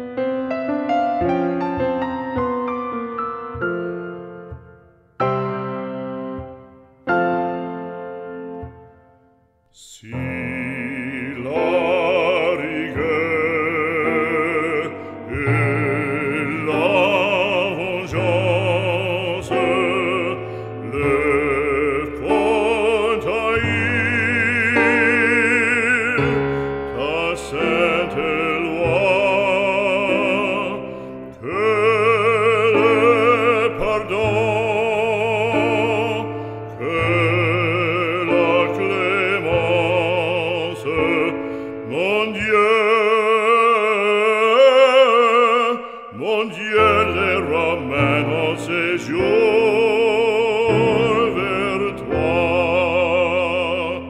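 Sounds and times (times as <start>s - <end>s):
music accompaniment: 0.0s - 54.0s
operatic voice singing: 9.7s - 54.0s.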